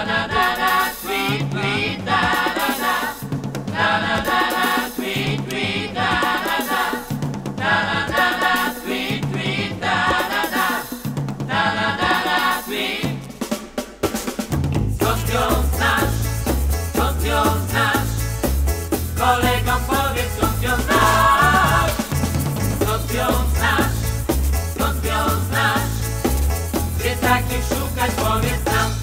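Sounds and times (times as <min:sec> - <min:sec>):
pop song with group vocals: 0:00.0 - 0:13.6, 0:15.0 - 0:29.0.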